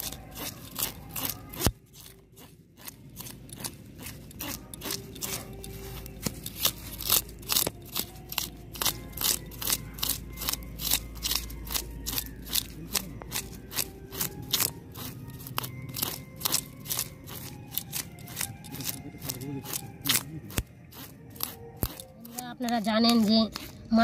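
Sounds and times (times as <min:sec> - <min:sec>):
knife scraping fish scales: 0:00.0 - 0:24.0.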